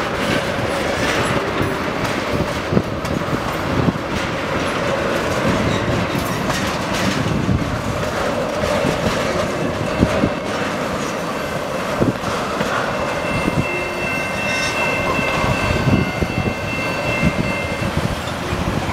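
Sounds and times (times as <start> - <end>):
train wheels clicking over rail joints: 0.0 - 18.9.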